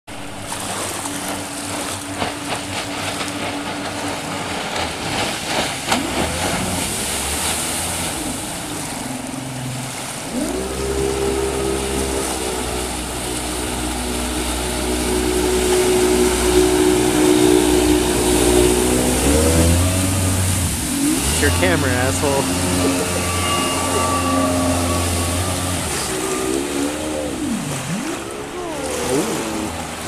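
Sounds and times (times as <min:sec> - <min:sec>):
boat engine passing by: 0:00.1 - 0:30.0.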